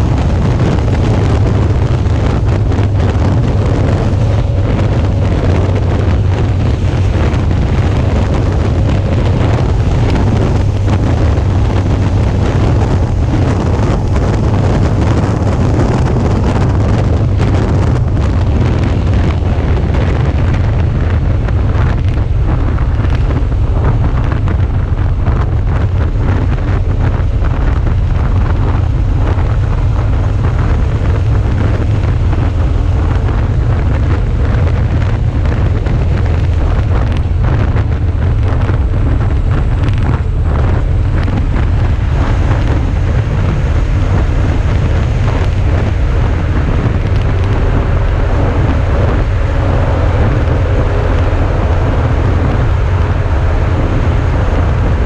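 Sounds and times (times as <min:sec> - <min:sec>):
motorcycle engine: 0:00.0 - 0:55.0
road noise: 0:00.0 - 0:55.0
wind buffeting microphone: 0:00.0 - 0:55.0.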